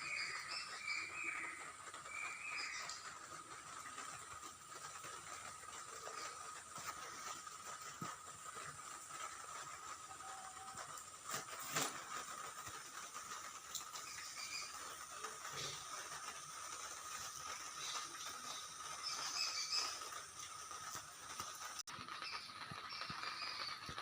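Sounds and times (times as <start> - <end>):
birds chirping faintly: 0.0 - 24.0
constant thin whine: 0.0 - 24.0
steady hiss: 0.0 - 24.0.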